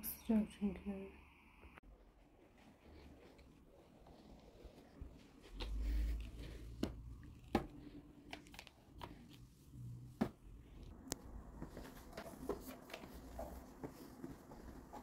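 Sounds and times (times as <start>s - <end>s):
soft squishing and crunching: 2.0s - 15.0s.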